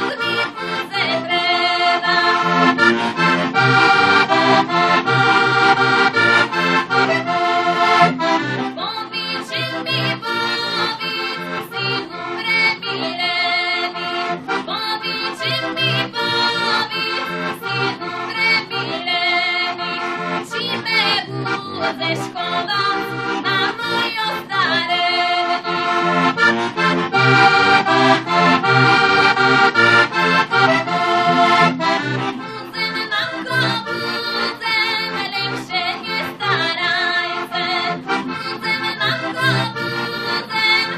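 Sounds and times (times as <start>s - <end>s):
button accordion folk tune: 0.0s - 40.9s.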